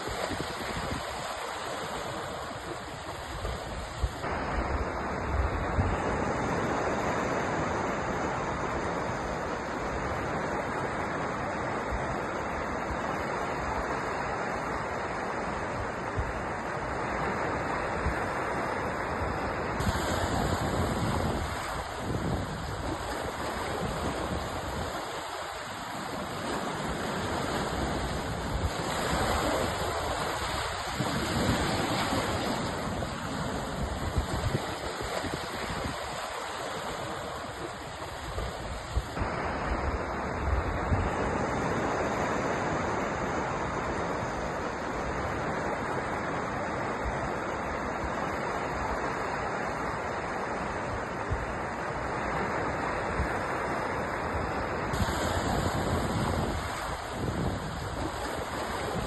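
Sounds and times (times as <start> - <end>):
sea surf washing: 0.0 - 59.0.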